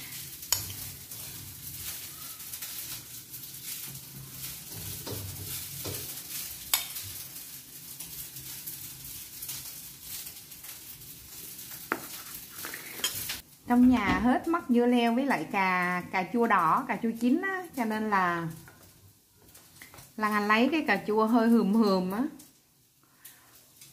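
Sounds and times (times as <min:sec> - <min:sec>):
oil sizzling in a frying pan: 0:00.0 - 0:23.9.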